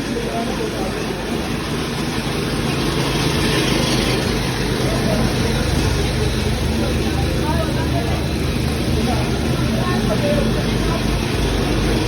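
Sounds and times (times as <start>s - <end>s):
chatter of many people: 0.0s - 12.0s
vehicle engines in traffic: 0.0s - 12.0s.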